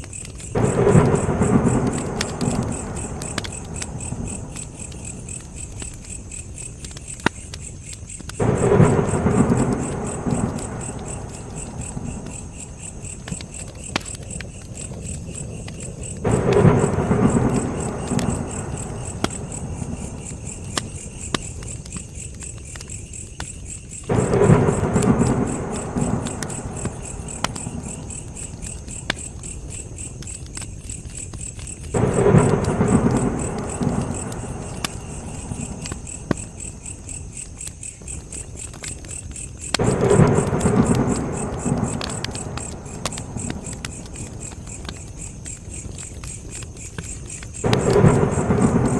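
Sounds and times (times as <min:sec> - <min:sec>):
campfire crackling and popping: 0:00.0 - 0:48.9
insects chirping: 0:00.0 - 0:48.9.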